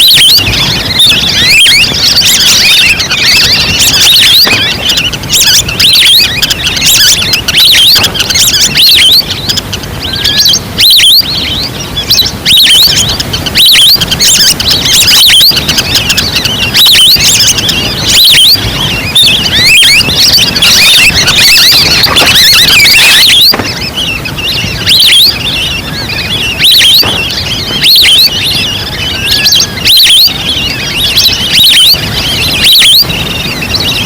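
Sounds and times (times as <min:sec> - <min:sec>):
ducks calling: 0:00.0 - 0:34.0.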